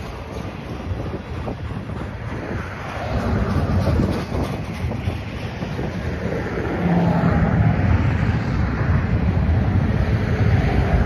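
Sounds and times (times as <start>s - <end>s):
train wheels rumbling on rail: 0.0s - 11.0s
wind on microphone: 0.0s - 11.0s.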